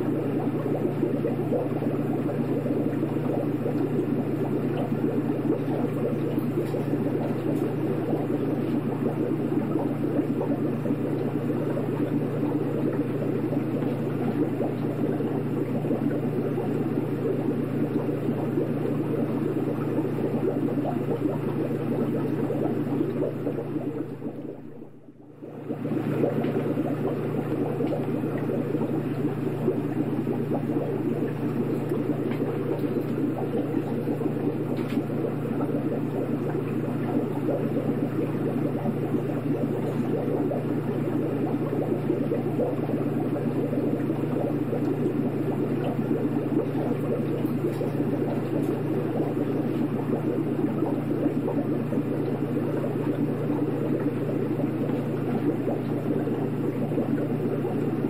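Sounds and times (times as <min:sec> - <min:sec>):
aquarium hum: 0:00.0 - 0:58.0
churning water: 0:00.0 - 0:58.0.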